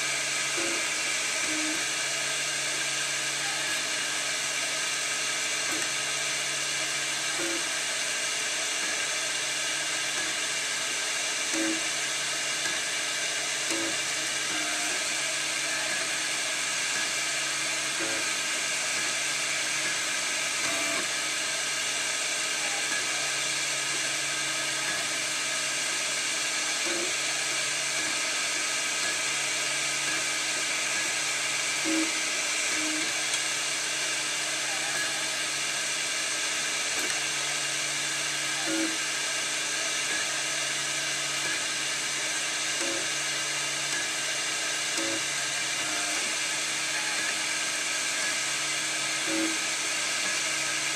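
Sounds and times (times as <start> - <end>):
printer motors and fan whine: 0.0 - 50.9.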